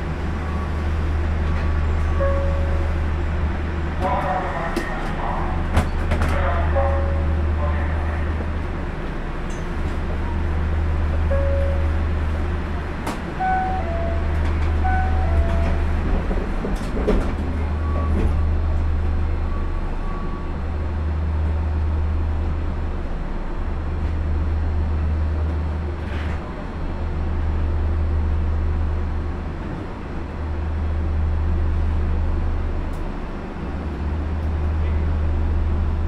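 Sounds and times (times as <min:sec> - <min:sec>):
train equipment humming: 0:00.0 - 0:36.0.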